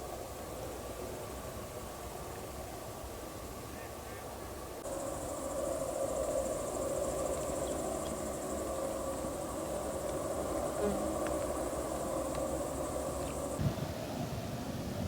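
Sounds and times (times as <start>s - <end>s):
crickets chirping: 0.0s - 14.4s
low steady hum: 0.0s - 15.0s.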